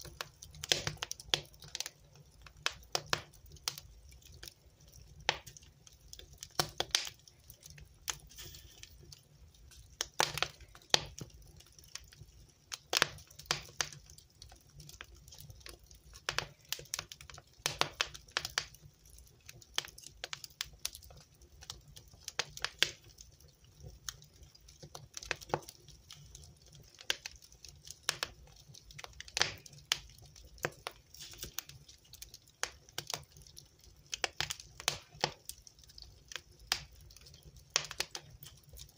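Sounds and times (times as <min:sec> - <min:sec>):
fire popping and snapping: 0:00.0 - 0:38.9
low rumble of burning: 0:00.0 - 0:38.9.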